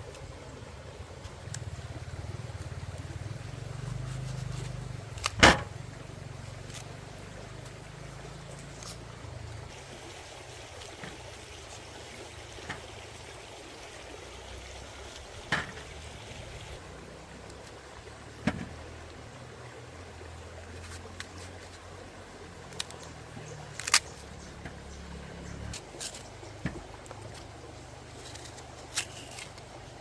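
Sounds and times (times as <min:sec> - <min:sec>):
stream water running: 0:00.0 - 0:30.0.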